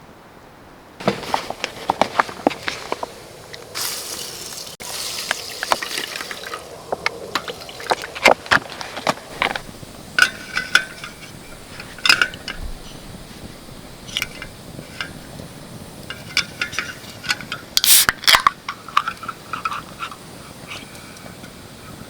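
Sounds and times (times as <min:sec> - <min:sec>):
camp gear knocking and scraping: 0:01.0 - 0:04.5, 0:05.2 - 0:21.5.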